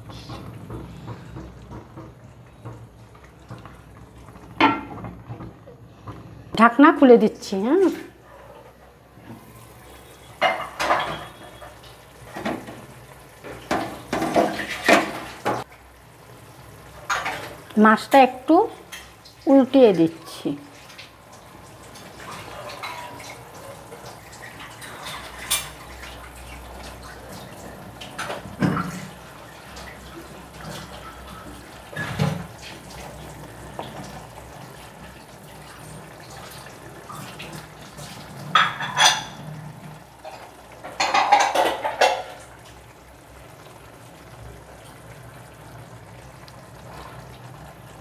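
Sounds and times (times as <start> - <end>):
gravy simmering: 0.0 - 48.0.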